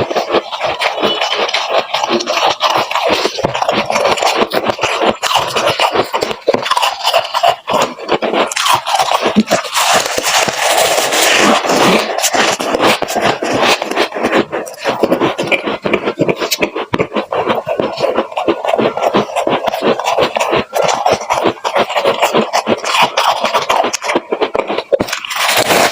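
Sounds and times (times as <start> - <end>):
person chewing icy crunches: 0.0 - 25.9.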